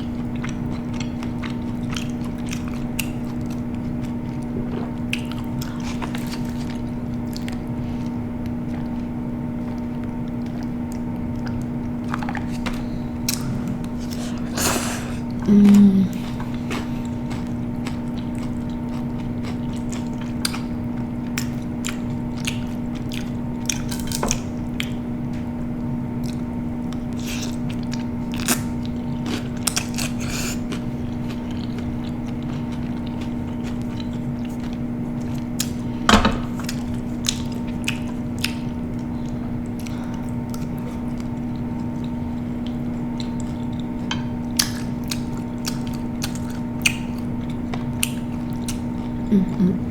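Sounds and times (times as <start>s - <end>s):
person chewing crunchy food: 0.0s - 49.9s
steady low hum: 0.0s - 49.9s.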